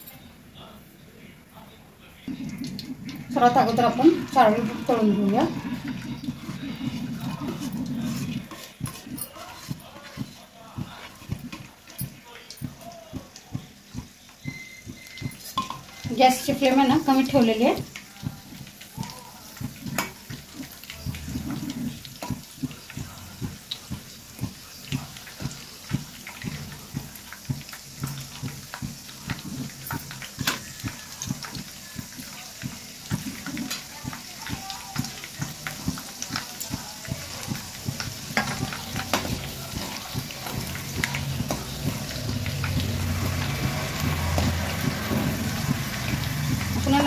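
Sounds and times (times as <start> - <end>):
nuts frying and popping in oil: 2.2 - 47.0
metal spatula stirring: 2.3 - 47.0.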